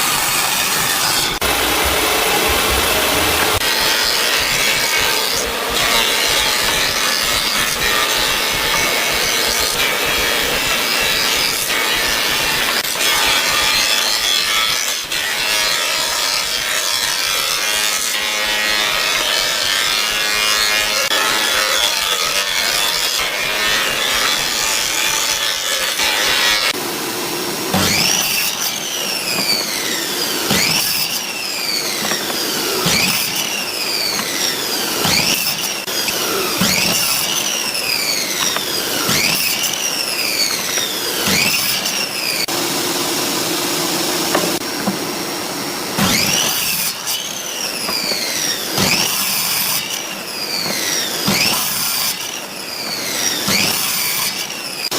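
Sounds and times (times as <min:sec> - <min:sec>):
hand saw cutting wood: 0:00.0 - 0:27.0, 0:27.6 - 0:54.9.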